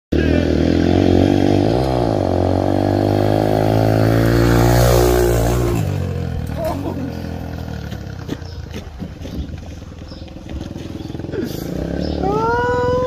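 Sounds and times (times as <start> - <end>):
dirt bike engine running: 0.1 - 13.0.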